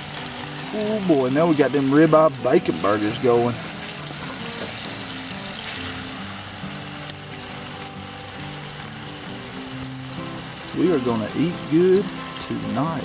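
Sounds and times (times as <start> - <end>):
burger patties sizzling in pan: 0.0 - 13.0
slow music with held notes: 0.0 - 13.0.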